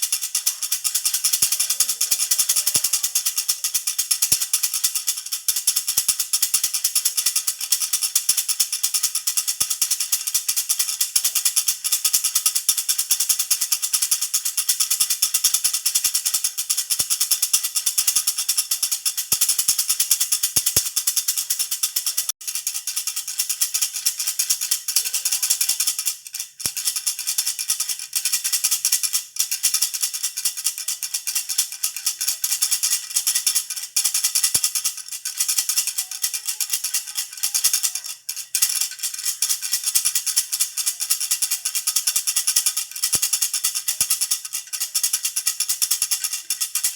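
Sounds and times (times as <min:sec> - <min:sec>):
baby rattle jingling: 0:00.0 - 0:46.9.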